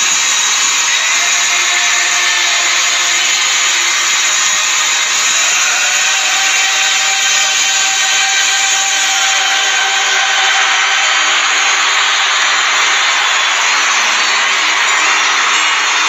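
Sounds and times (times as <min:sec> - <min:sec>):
stadium crowd cheering: 0:00.0 - 0:16.0.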